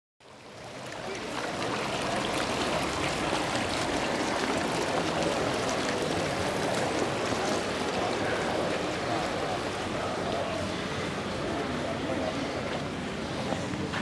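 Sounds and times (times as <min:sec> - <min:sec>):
fountain water splashing: 0:00.2 - 0:14.0.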